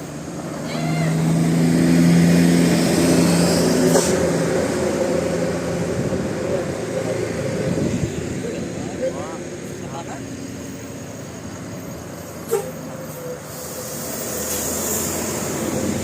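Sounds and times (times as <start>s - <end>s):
bus driving past: 0.0s - 16.0s.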